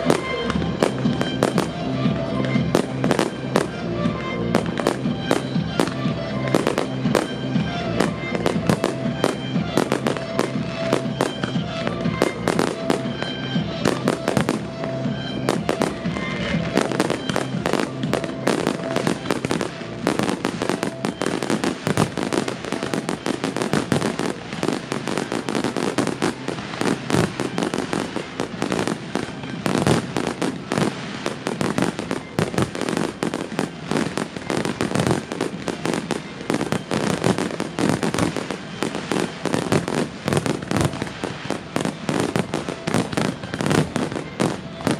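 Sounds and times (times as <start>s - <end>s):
fireworks bangs and crackles: 0.0s - 44.9s
music playing: 0.0s - 44.9s.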